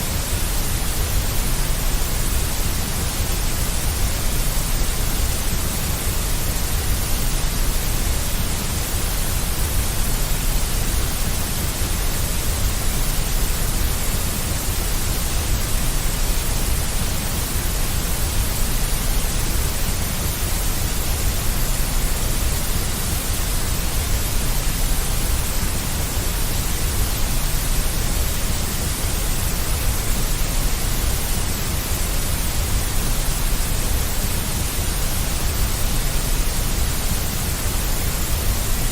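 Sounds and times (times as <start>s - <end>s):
deep white noise: 0.0s - 38.9s.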